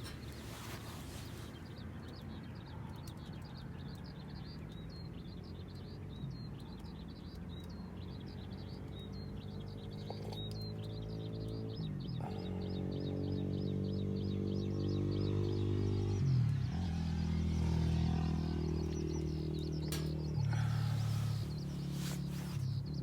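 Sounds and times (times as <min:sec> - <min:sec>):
small bird chirping: 0:00.0 - 0:23.0.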